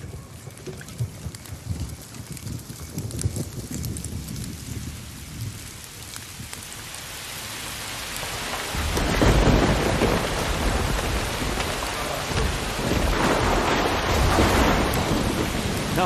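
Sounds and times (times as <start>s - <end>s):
heavy rain pouring: 0.0s - 16.0s
thunder rumbling: 0.0s - 16.0s.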